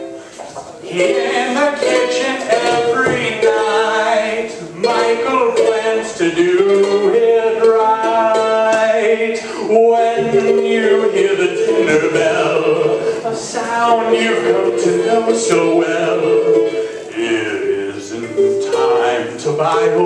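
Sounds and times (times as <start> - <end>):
ukulele playing: 0.0 - 20.0
man singing: 0.8 - 20.0.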